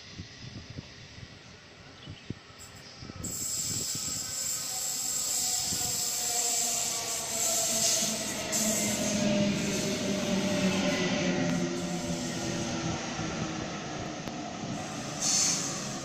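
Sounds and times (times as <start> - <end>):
electric train whine: 0.0 - 16.0
rail and wheel noise: 0.0 - 16.0.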